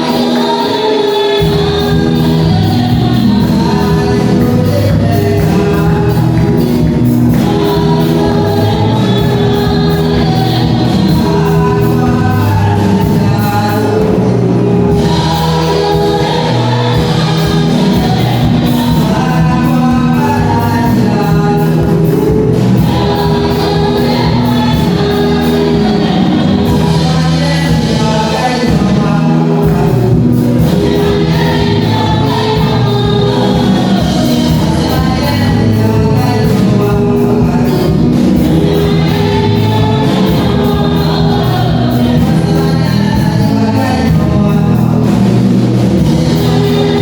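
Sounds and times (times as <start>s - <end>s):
gospel choir singing: 0.0s - 47.0s
instrumental backing: 0.0s - 47.0s.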